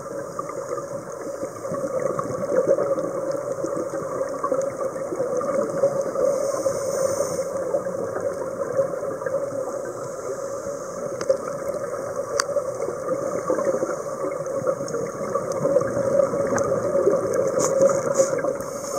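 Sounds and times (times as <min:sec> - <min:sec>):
muffled underwater rush: 0:00.0 - 0:18.9.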